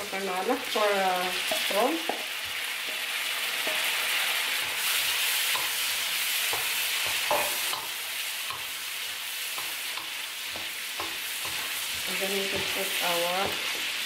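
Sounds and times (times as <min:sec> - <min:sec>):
prawns sizzling in a wok: 0:00.0 - 0:14.0
spatula knocking and scraping pan: 0:01.4 - 0:14.0.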